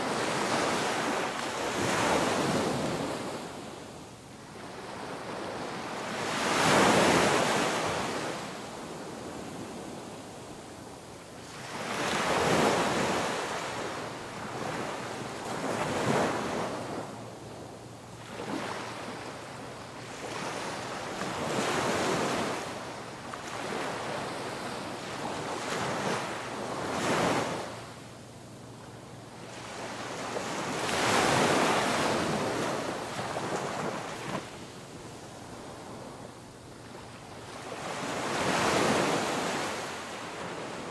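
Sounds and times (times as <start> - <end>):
ocean waves breaking on shore: 0.0 - 3.8, 4.4 - 10.5, 11.4 - 28.0, 28.8 - 40.9.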